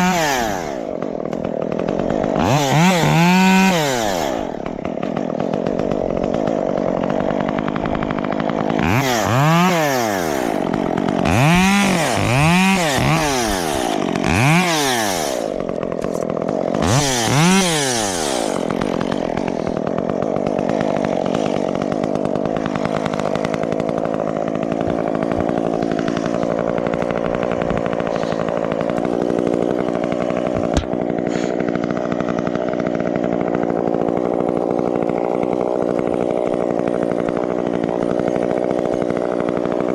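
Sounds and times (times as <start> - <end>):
chainsaw engine revving and idling: 0.0 - 39.9.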